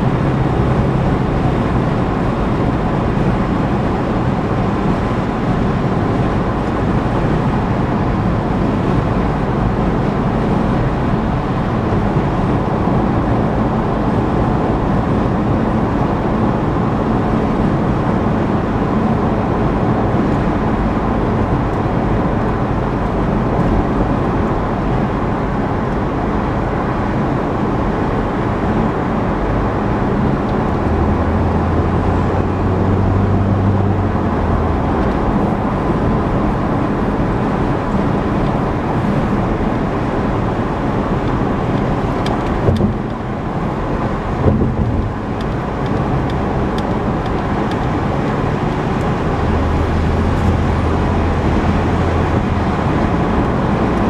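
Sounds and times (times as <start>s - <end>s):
car engine hum: 0.0s - 54.0s
tyre and wind road noise: 0.0s - 54.0s.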